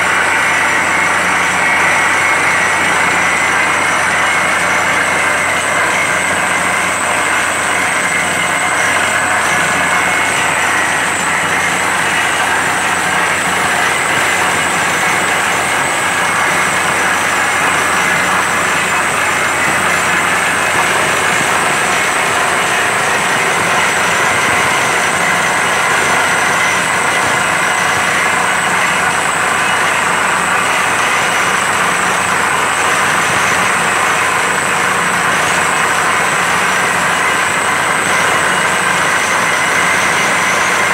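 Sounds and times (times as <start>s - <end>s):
drilling rig running: 0.0s - 40.9s.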